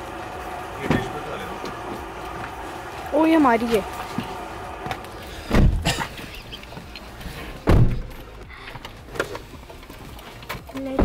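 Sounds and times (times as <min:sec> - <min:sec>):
car doors shutting: 0:00.7 - 0:02.6, 0:04.0 - 0:11.0.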